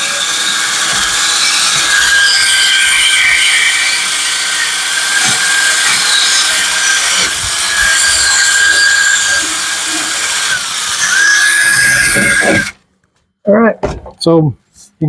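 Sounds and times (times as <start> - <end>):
drill motor whine: 0.0 - 12.8.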